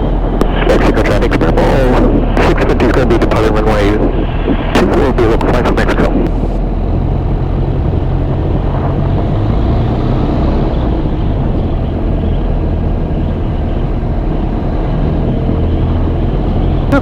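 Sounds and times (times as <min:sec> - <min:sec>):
aircraft engine droning: 0:00.0 - 0:17.0.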